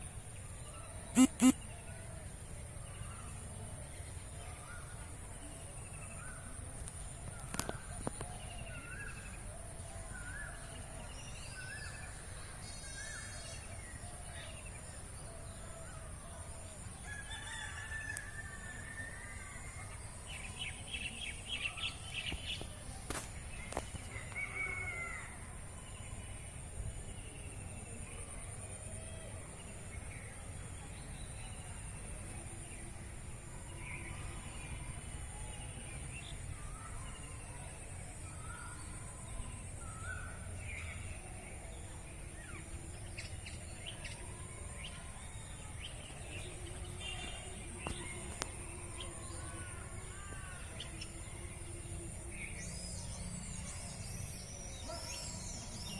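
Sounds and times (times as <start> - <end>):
wild birds chirping: 0.0 - 55.9.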